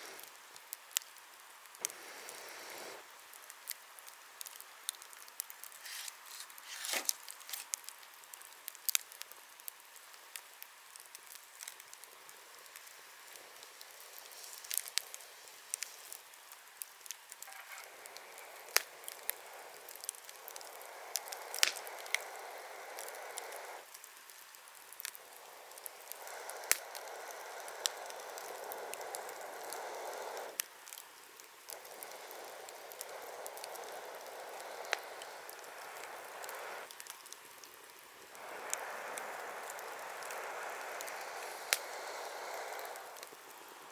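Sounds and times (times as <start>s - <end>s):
bonfire crackling: 0.0s - 43.9s
steady hiss: 0.0s - 43.9s.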